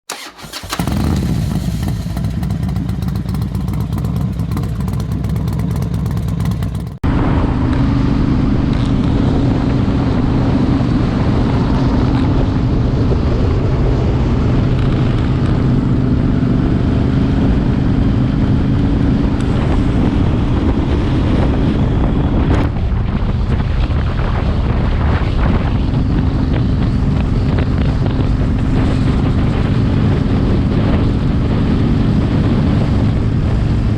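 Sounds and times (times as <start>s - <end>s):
motorcycle engines running: 0.5s - 33.9s
wind noise on microphone: 0.5s - 33.9s.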